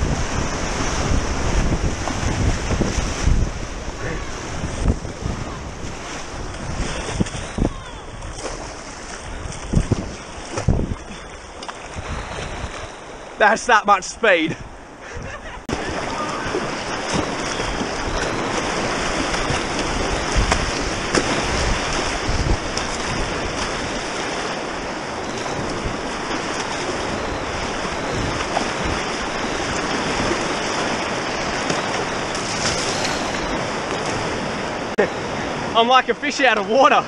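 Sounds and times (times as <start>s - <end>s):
wind buffeting microphone: 0.0s - 13.4s, 14.5s - 35.7s
river water rushing: 0.0s - 15.0s, 15.6s - 37.0s.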